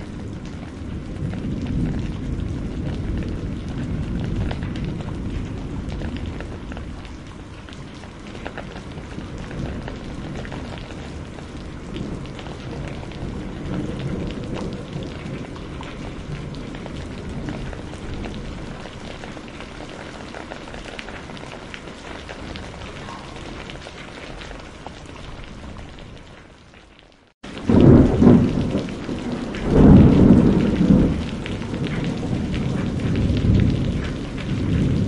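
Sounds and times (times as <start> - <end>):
distant thunder rumble: 0.0 - 26.2, 27.5 - 35.0
steady rain falling: 0.0 - 35.0.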